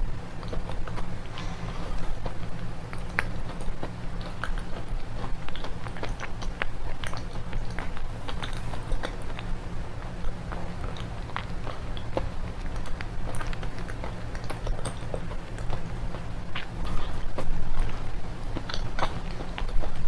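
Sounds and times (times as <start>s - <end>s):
chewing brittle clay pencils: 0.0s - 20.0s.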